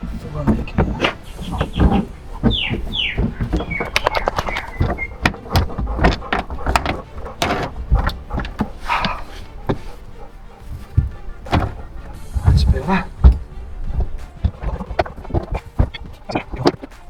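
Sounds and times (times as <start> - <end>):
knocking and clunking of metal parts: 0.0 - 17.0
short falling squeaks: 0.4 - 17.0.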